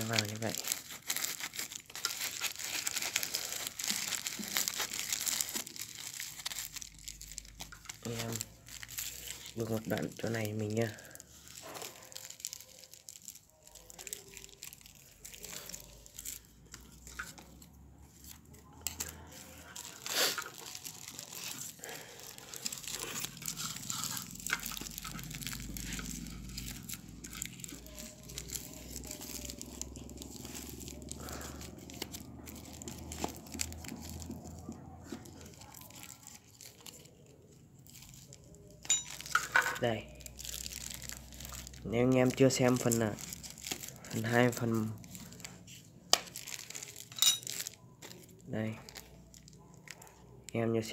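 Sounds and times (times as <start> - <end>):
foil and paper crinkling: 0.0 - 50.9.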